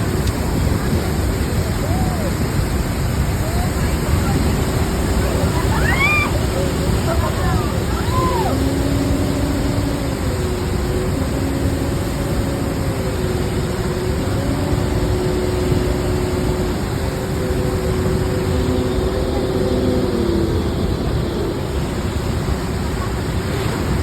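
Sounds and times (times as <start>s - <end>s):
faint motor hum: 0.0s - 24.0s
waterfall roaring: 0.0s - 24.0s.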